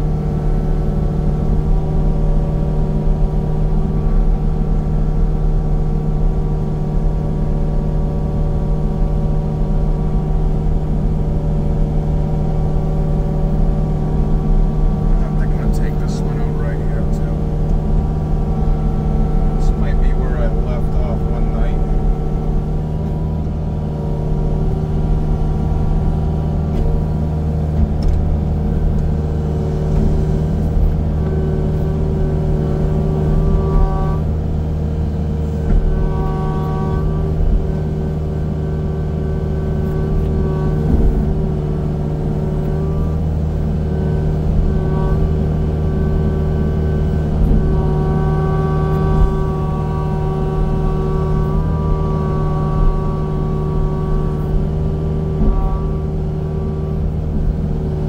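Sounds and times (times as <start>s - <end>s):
diesel engine running: 0.0s - 58.0s
high-pitched whine: 0.0s - 58.0s.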